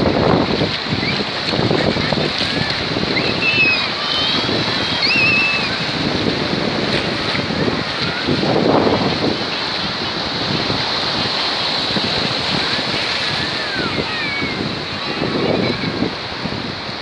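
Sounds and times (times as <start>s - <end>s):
surf washing over sand: 0.0s - 17.0s
wind buffeting microphone: 0.0s - 17.0s.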